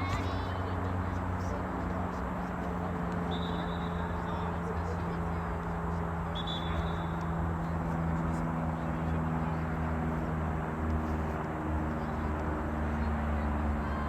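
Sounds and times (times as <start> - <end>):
low hum of held tones: 0.0 - 14.0.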